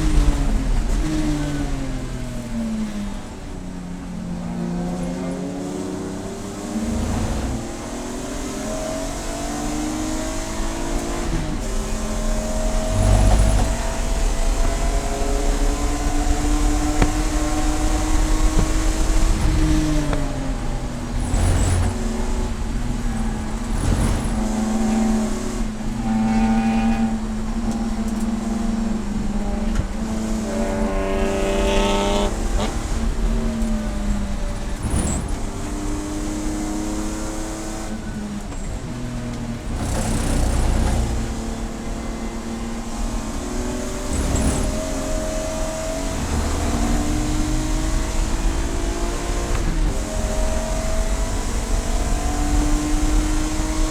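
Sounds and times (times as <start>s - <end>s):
race car engine revving: 0.0s - 53.9s.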